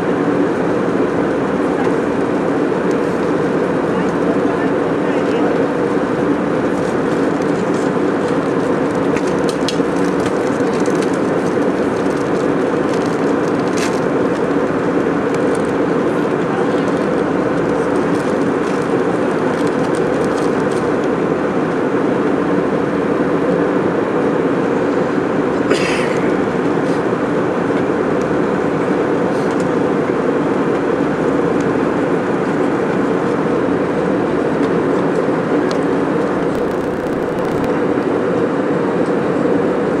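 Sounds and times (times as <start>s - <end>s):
airliner cabin engine roar: 0.0s - 40.0s.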